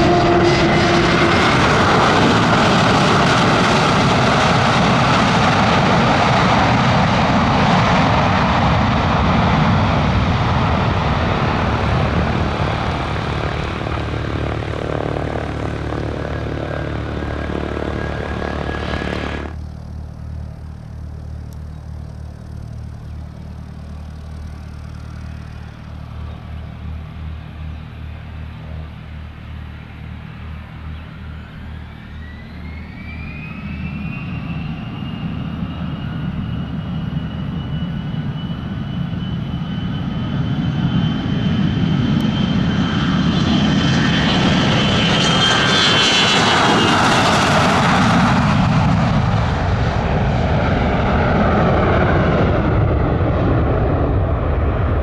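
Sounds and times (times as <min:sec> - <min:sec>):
jet engine whine: 0:00.0 - 0:55.0
jet engines roaring: 0:00.0 - 0:55.0.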